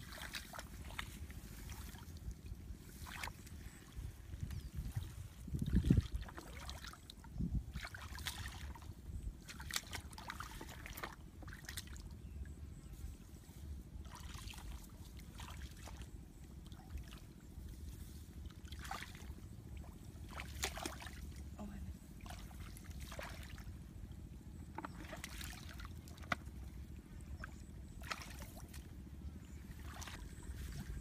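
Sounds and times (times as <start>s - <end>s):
low steady rumble: 0.0s - 31.0s
water splashing and sloshing: 0.0s - 31.0s.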